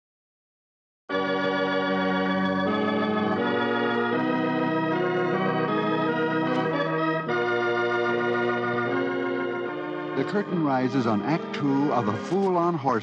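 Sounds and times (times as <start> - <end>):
organ chords: 1.1 - 13.0.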